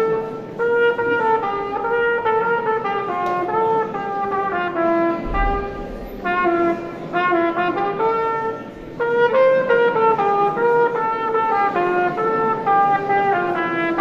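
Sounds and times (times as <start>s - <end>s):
plastic trumpet melody: 0.0s - 14.0s.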